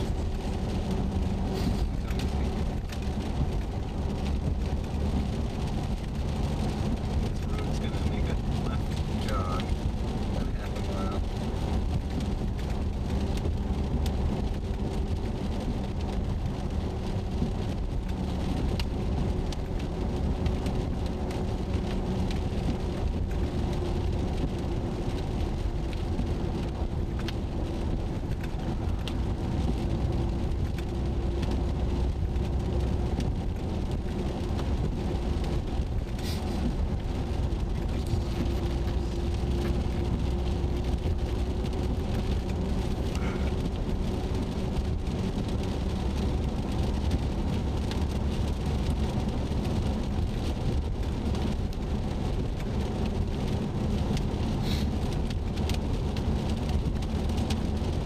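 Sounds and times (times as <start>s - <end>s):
car engine and road noise: 0.0s - 58.0s
raindrops ticking on car roof: 0.0s - 58.0s.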